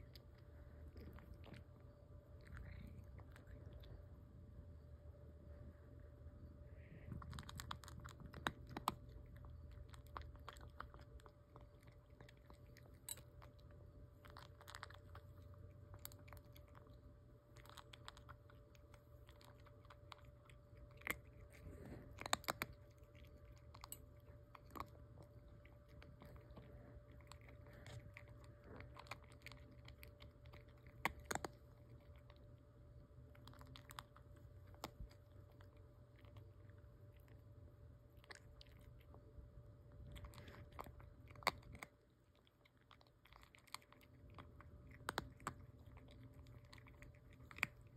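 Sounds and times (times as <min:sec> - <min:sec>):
cat crunching dry kibble: 0:00.0 - 0:04.3, 0:06.8 - 0:47.9.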